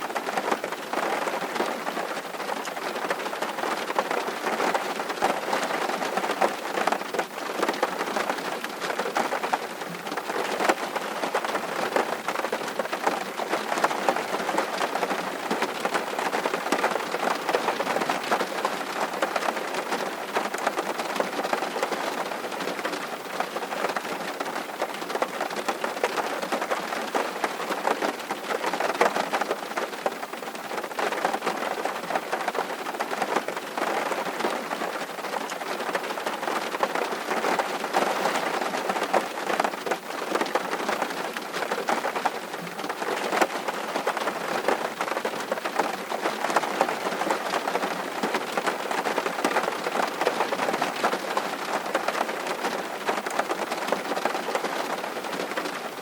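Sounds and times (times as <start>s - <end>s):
steady rain with ticking drops: 0.0s - 56.0s.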